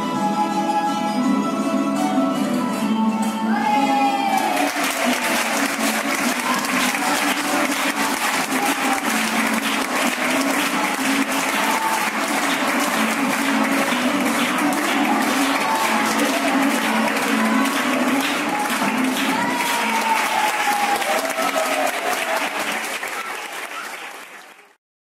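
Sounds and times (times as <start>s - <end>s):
music: 0.0s - 24.2s
audience clapping: 4.2s - 24.8s.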